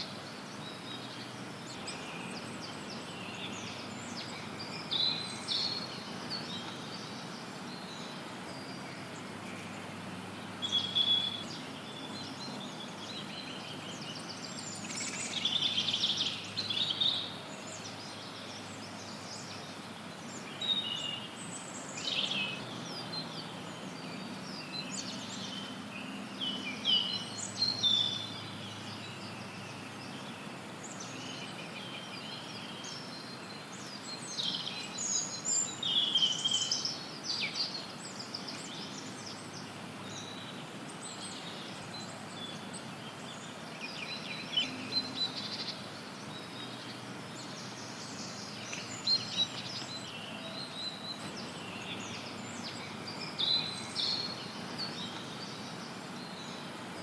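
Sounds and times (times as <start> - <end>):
songbirds chirping and trilling: 0.0 - 57.0
white noise hiss: 0.0 - 57.0.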